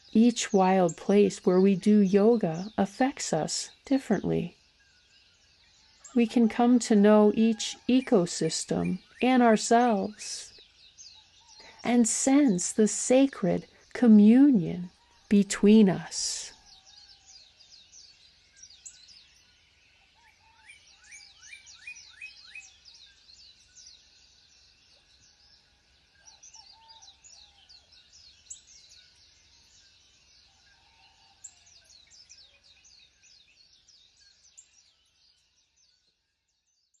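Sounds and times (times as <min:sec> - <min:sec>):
small birds singing and chirping: 0:00.0 - 0:37.0.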